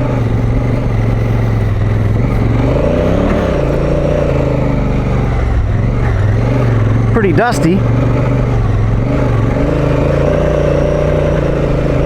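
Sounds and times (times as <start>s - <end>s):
motorcycle engine revving: 0.0s - 12.0s
rear wheel spinning: 0.0s - 12.0s.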